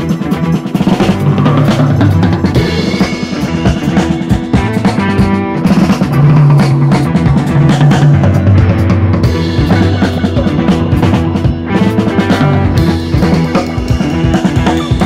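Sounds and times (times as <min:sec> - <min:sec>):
music with drum beat and bass: 0:00.0 - 0:15.0.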